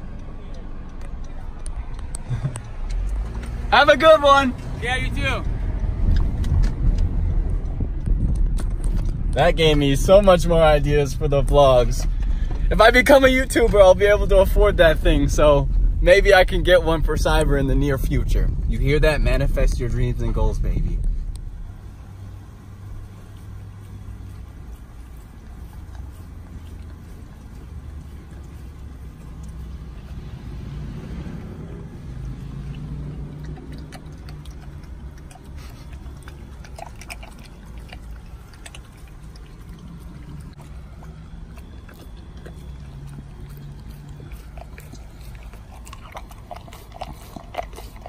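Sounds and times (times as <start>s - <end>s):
low steady hum: 0.0s - 48.0s
dog slurping and lapping: 5.6s - 48.0s.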